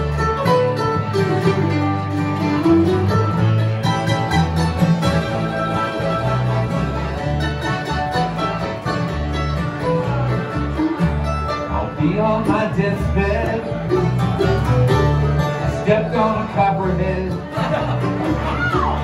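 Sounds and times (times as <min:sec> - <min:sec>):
accordion: 0:00.0 - 0:19.0
acoustic guitar: 0:00.0 - 0:19.0
banjo: 0:00.0 - 0:19.0
mandolin: 0:00.0 - 0:19.0
upright bass: 0:00.0 - 0:19.0.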